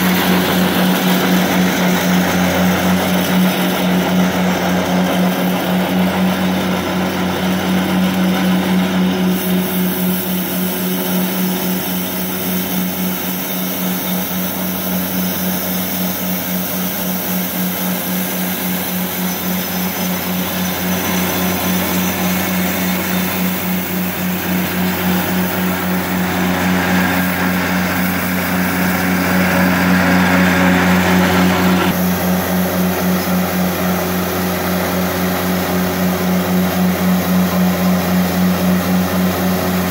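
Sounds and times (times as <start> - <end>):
broom brushing wet pavement: 0.0 - 39.9
diesel engine droning: 0.0 - 39.9.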